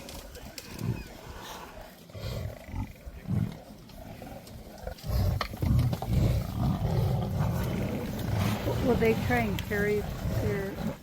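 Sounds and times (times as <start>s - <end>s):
lions growling: 0.0s - 11.0s.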